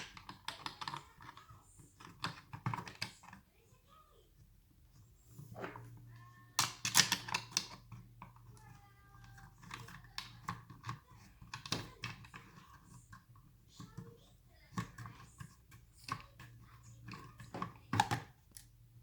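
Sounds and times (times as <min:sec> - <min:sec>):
plastic and metal parts clicking: 0:00.0 - 0:03.4, 0:06.6 - 0:18.8.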